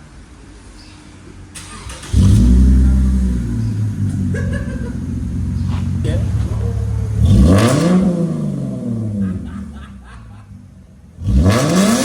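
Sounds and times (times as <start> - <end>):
car engine starting and idling: 1.4 - 12.0.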